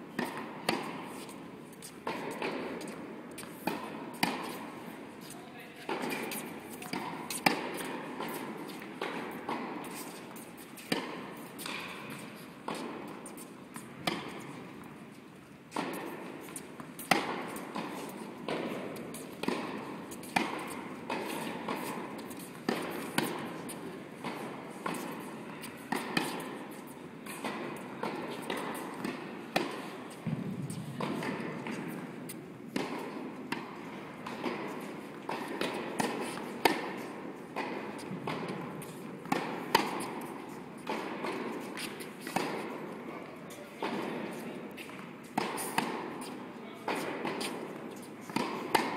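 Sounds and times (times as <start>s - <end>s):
tennis balls bouncing on court: 0.1s - 43.0s, 43.7s - 48.9s
tennis balls struck by rackets: 0.1s - 48.9s.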